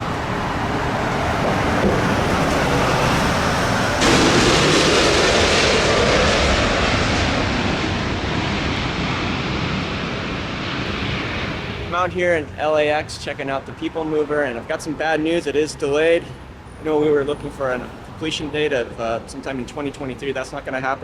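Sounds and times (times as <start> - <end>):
airport noise roar: 0.0 - 21.0.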